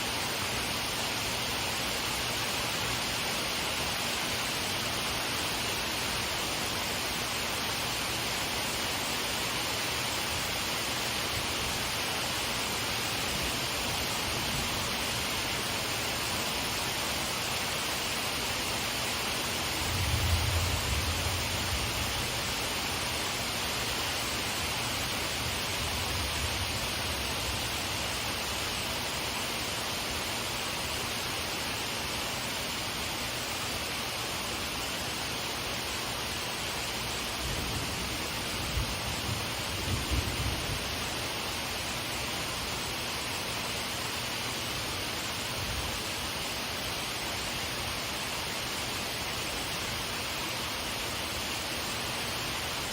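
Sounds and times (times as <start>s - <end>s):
rain shower hiss: 0.0s - 52.9s.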